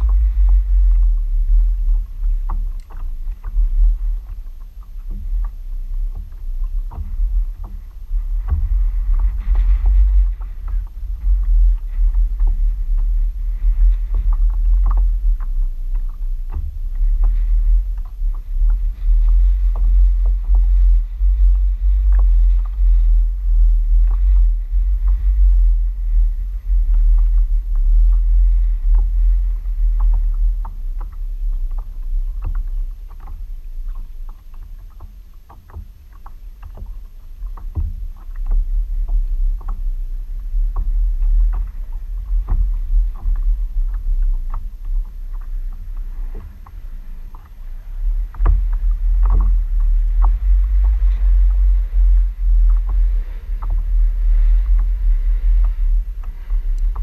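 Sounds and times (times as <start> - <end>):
water lapping against kayak hull: 0.0 - 57.0
wind buffeting microphone: 0.0 - 57.0.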